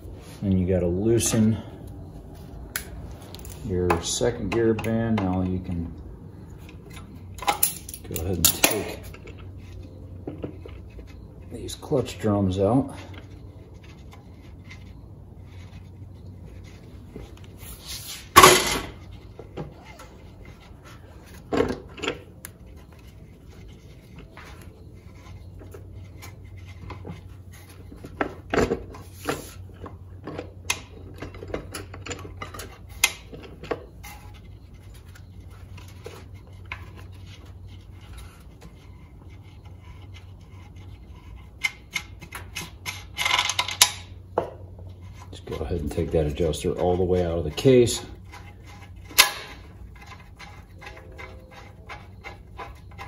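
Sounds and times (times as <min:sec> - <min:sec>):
low steady hum: 0:00.0 - 0:53.0
metal tools clinking and scraping: 0:03.1 - 0:53.0.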